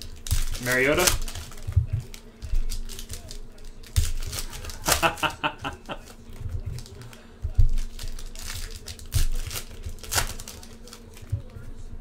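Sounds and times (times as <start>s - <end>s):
foil crinkling: 0.0s - 11.8s.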